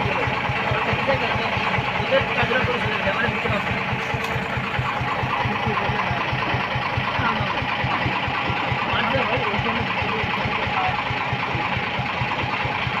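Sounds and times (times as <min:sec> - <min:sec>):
faint voices: 0:00.0 - 0:13.0
forklift engine idling: 0:00.0 - 0:13.0.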